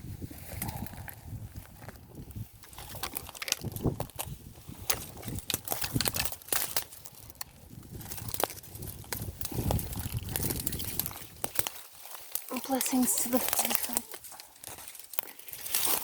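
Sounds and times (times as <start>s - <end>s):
twigs snapping: 0.5s - 16.0s
footsteps crunching on dry leaves: 1.6s - 16.0s.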